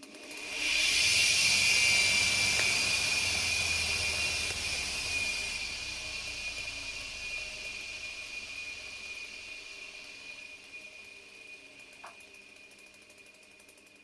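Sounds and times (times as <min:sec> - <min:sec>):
washing machine motor whining: 0:00.0 - 0:13.9.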